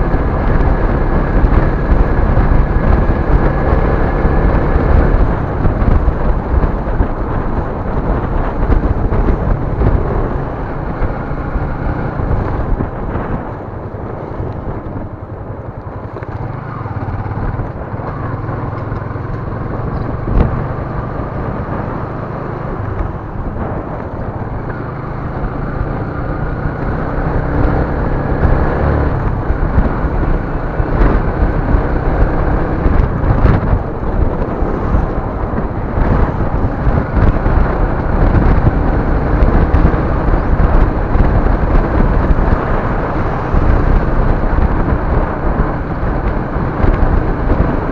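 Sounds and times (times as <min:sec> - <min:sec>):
motor vehicle running: 0:00.0 - 0:47.9.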